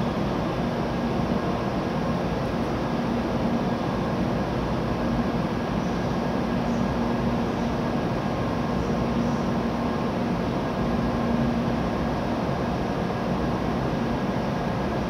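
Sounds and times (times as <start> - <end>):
train onboard equipment whirring hum: 0.0 - 15.0.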